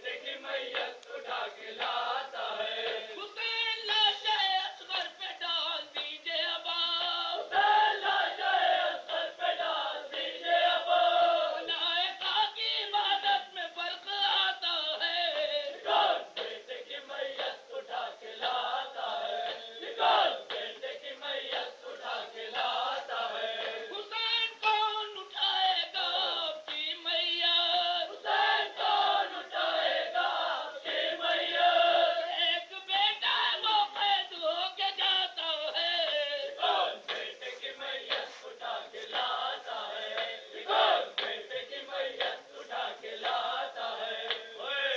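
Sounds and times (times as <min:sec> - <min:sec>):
voices chanting a lament: 0:00.0 - 0:44.9.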